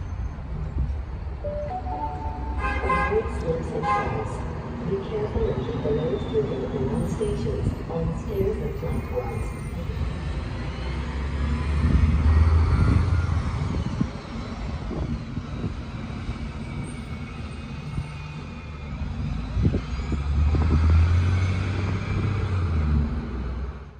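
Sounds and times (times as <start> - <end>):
bus engine rumble: 0.0 - 23.9.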